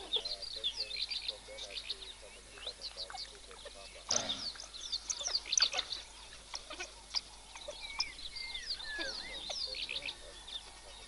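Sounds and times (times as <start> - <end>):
wild dogs twittering: 0.0 - 11.0.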